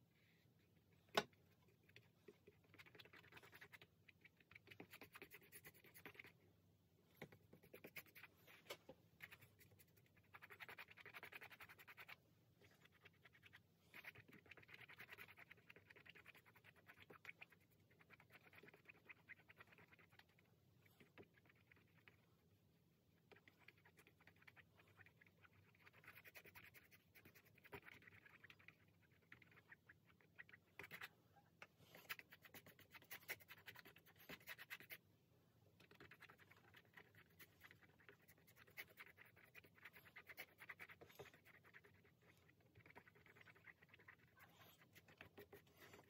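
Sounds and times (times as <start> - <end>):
paintbrush scratching on canvas: 1.9 - 6.4, 7.2 - 22.3, 23.3 - 31.2, 31.8 - 35.0, 35.8 - 46.0.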